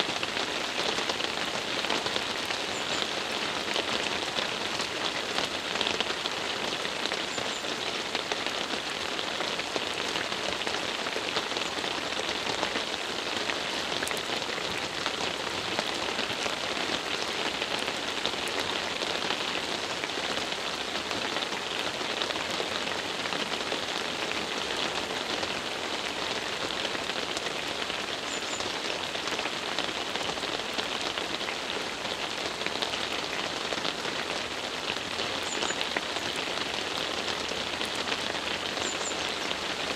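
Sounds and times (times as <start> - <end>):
steady rain on road: 0.0 - 39.9.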